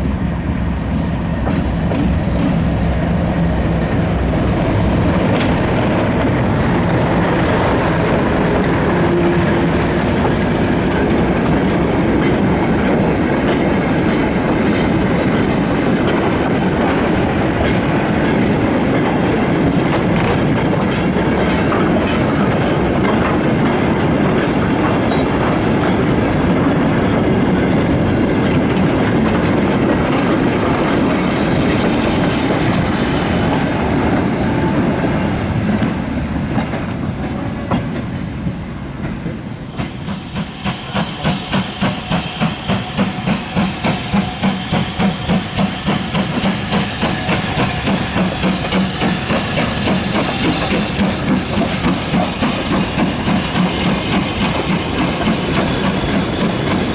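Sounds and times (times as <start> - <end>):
steam locomotive chuffing: 0.0 - 56.9
train wagons clattering over rails: 0.0 - 56.9.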